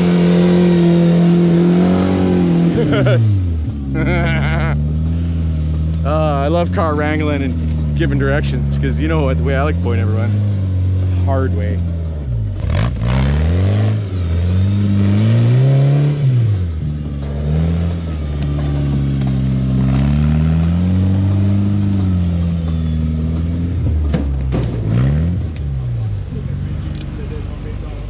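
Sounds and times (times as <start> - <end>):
engine revving: 0.0 - 28.0.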